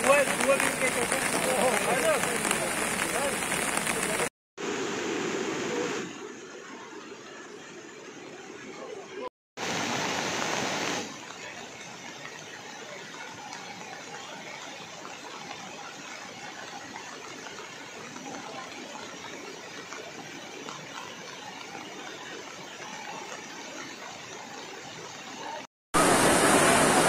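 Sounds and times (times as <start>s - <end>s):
rushing river in flood: 0.0s - 7.2s, 8.9s - 27.0s.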